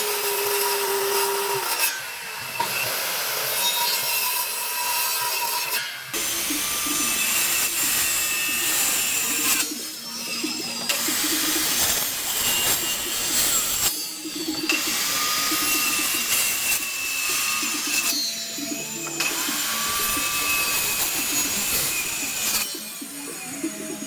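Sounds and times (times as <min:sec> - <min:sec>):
power tool whining through wood: 0:00.0 - 0:24.0.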